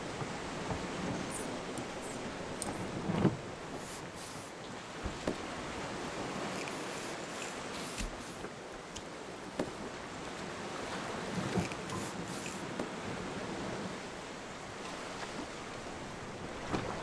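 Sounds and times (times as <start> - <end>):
sea around a sailing boat: 0.0 - 17.0.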